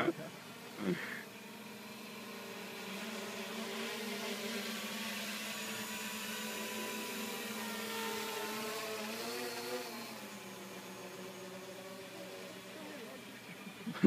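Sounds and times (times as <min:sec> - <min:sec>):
quadcopter propellers whirring: 0:00.0 - 0:14.0.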